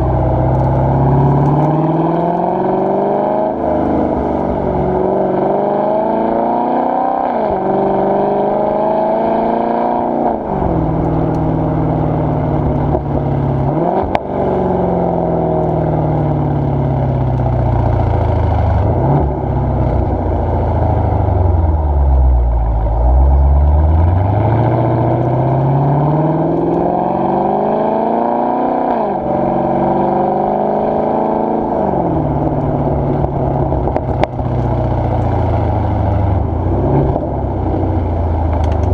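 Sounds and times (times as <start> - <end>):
car exhaust accelerating through gears: 0.0 - 38.9.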